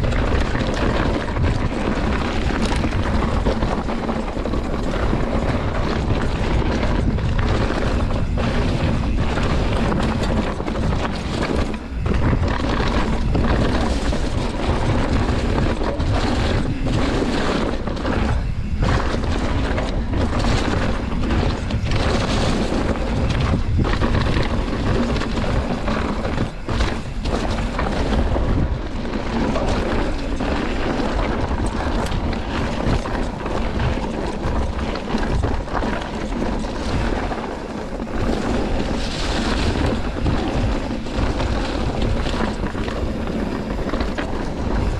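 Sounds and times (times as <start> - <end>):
mountain bike rumble: 0.0 - 44.9
wind buffeting microphone: 0.0 - 44.9.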